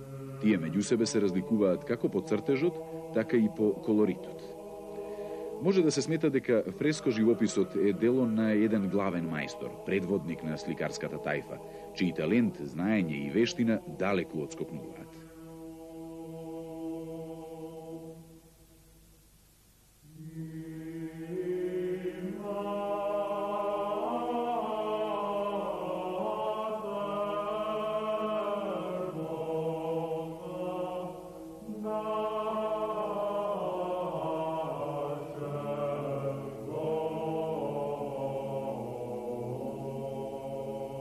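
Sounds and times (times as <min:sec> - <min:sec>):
voices chanting slow melody: 0:00.0 - 0:19.2, 0:19.9 - 0:41.0.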